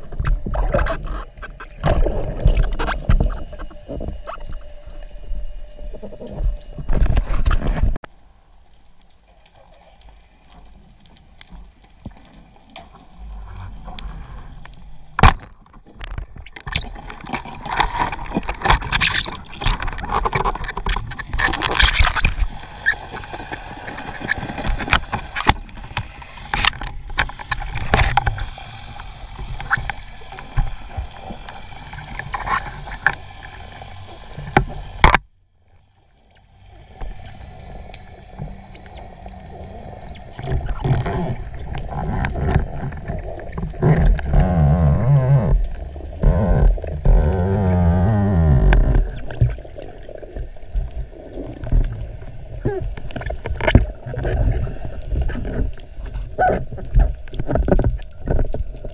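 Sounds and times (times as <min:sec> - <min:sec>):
water sloshing and gurgling: 0:00.0 - 0:58.9.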